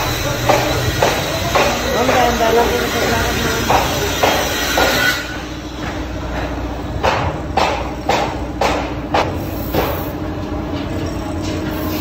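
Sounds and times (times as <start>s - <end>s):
hammer blows: 0.0s - 10.2s
steady machine hum: 0.0s - 12.0s.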